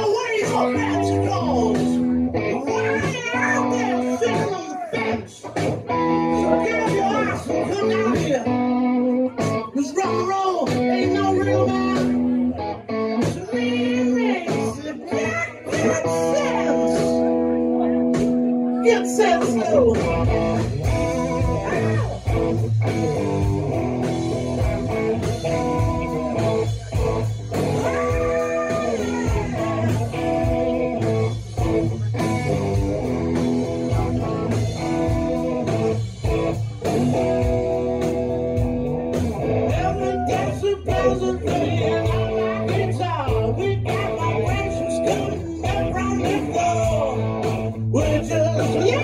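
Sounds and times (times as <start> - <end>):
blues rock music: 0.0 - 49.0.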